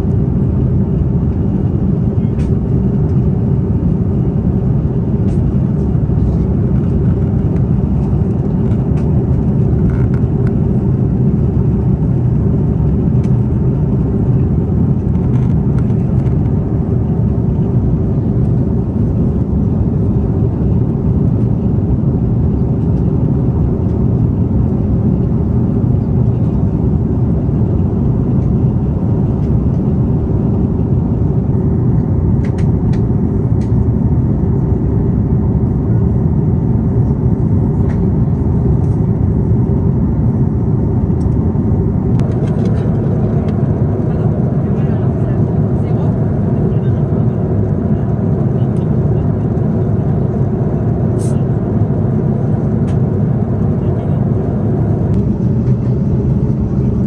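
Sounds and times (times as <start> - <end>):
jet cabin engine drone: 0.0 - 57.0.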